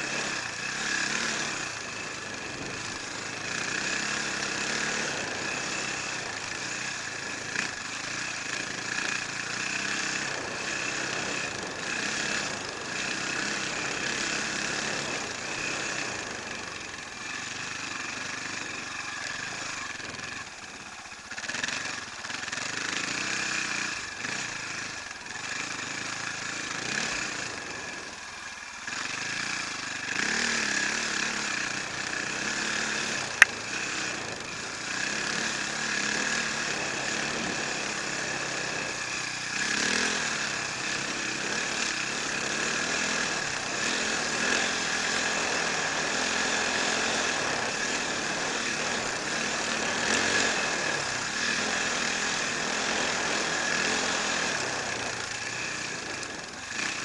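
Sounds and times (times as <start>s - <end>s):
motorcycle engine under load: 0.0s - 57.0s.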